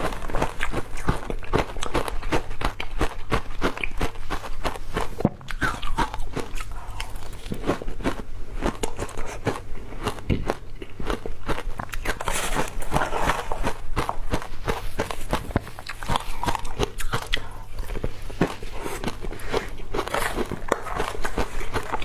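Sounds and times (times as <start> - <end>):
ice crunching between teeth: 0.0 - 22.0.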